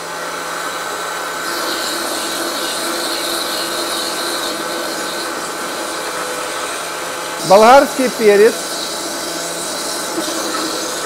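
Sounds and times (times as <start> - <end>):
blender motor whining: 0.6 - 11.0.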